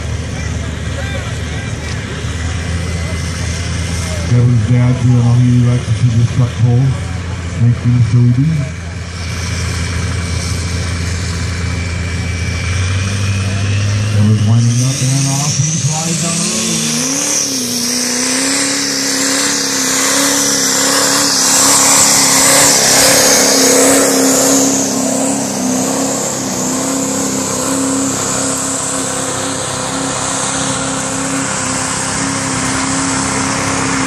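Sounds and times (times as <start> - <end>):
pickup truck engine high revs: 0.0 - 34.0.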